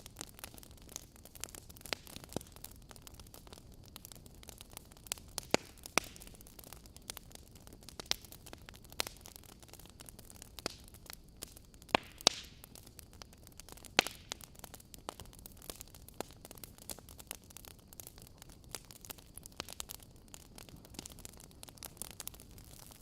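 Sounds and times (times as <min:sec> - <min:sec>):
fire pops and snaps: 0:00.0 - 0:23.0
soft hiss of fire: 0:00.0 - 0:23.0
wood fire crackling: 0:00.0 - 0:23.0.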